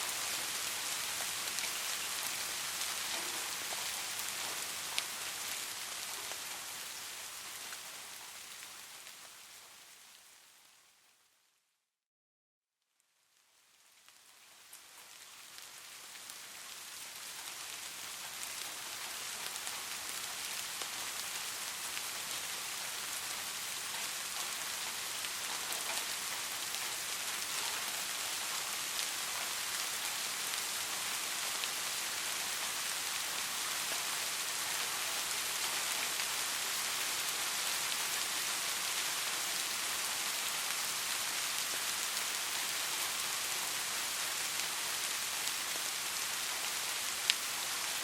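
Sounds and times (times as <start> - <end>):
steady rain falling: 0.0 - 11.6, 13.0 - 48.0.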